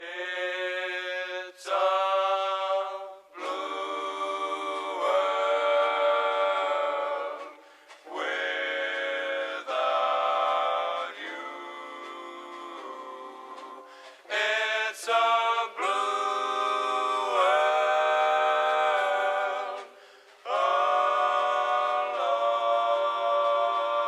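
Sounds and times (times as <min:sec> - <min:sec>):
vocal group singing harmony: 0:00.0 - 0:24.0.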